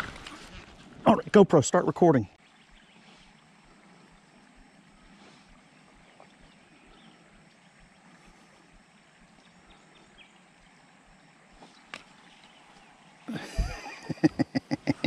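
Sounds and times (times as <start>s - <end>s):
faint stream ambience: 0.0s - 15.0s.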